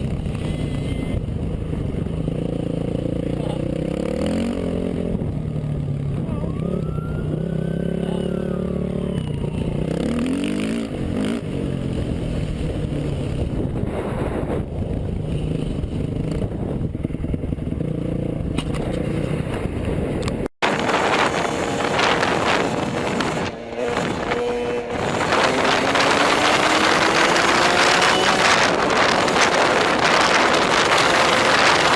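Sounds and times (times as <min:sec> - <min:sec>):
road and wind noise: 0:00.0 - 0:31.9
vehicle engine revving: 0:01.9 - 0:16.8, 0:17.8 - 0:31.9.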